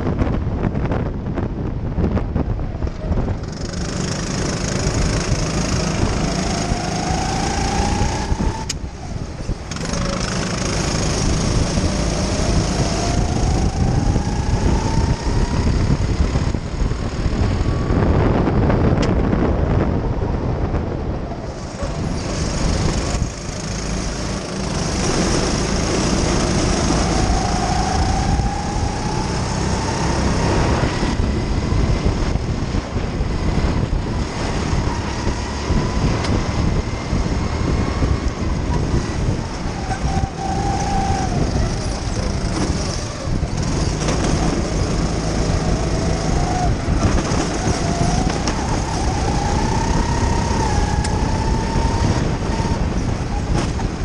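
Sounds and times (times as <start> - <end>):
steady rushing noise: 0.0 - 54.0
kart engine revving: 3.2 - 19.9, 20.5 - 54.0.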